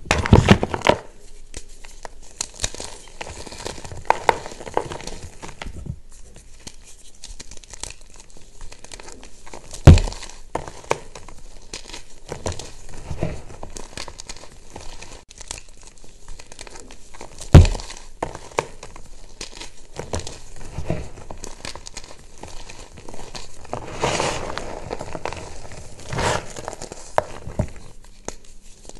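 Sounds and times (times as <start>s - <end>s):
chalk crunching and crumbling: 0.0s - 28.9s.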